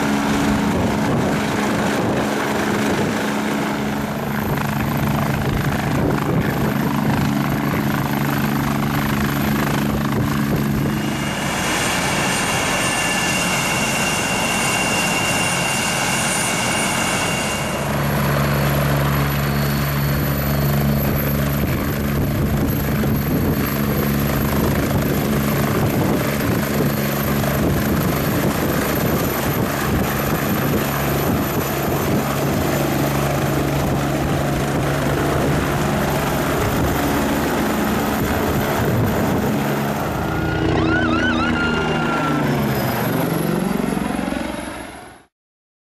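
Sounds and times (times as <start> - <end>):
helicopter high whine: 0.0 - 45.3
helicopter rotor drone: 0.0 - 45.3.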